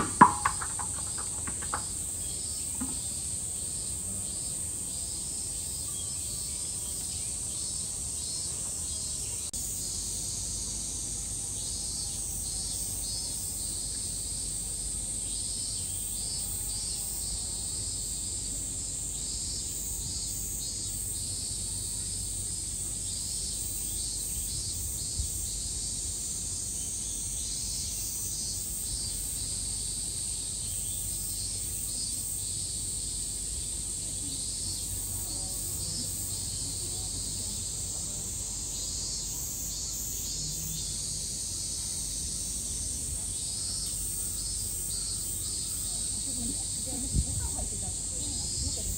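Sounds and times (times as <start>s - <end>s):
cicadas buzzing: 0.0s - 48.9s
pulsing insect call: 0.0s - 48.9s.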